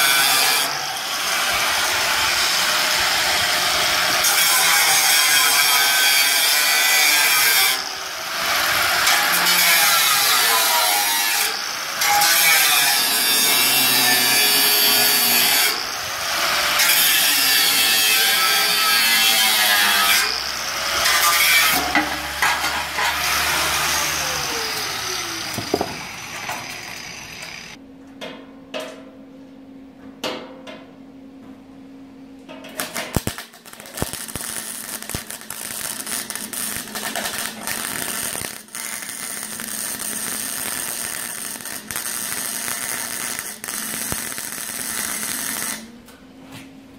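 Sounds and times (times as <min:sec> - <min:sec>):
angle grinder cutting metal: 0:00.0 - 0:27.8, 0:32.8 - 0:45.9.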